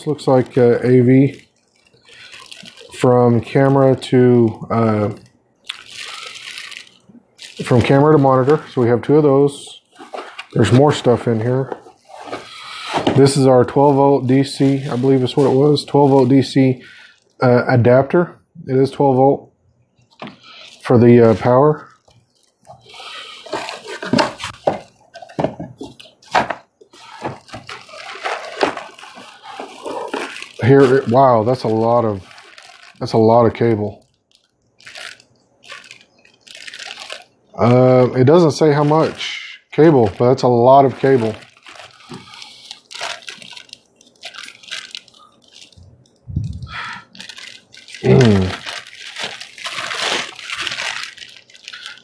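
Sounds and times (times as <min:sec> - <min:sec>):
cardboard and plastic rustling: 0:00.0 - 0:17.6, 0:20.1 - 0:52.0
plastic bags crinkling: 0:00.0 - 0:18.0, 0:20.0 - 0:52.0.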